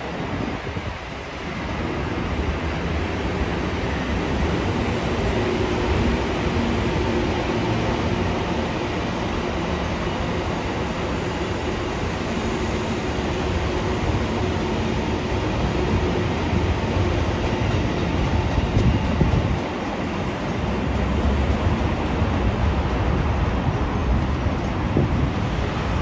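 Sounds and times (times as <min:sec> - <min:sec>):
train running on rails: 0:00.0 - 0:26.0.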